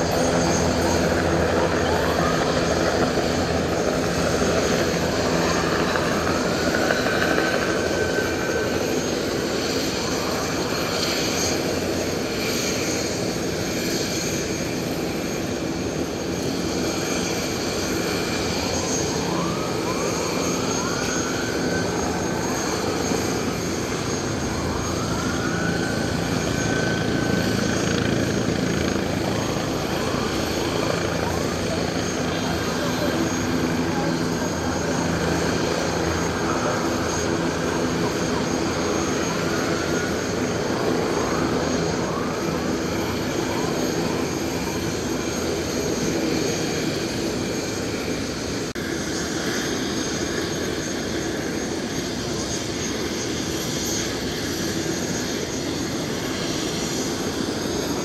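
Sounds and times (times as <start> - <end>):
helicopter engine drone: 0.0 - 58.0.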